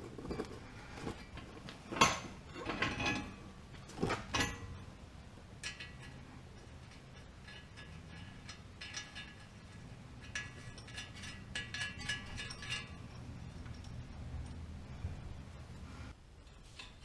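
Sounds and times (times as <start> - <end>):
metal parts clinking: 0.0 - 4.9, 5.6 - 14.6
low steady hum: 0.0 - 17.0.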